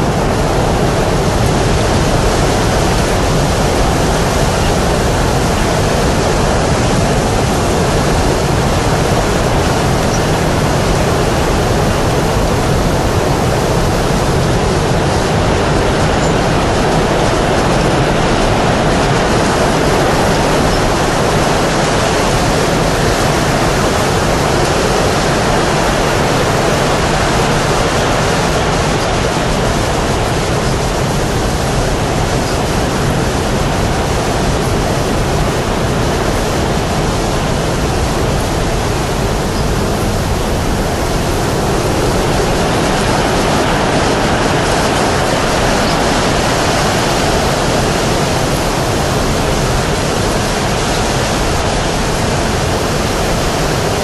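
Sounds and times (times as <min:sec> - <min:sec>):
loud rushing air: 0:00.0 - 0:54.0.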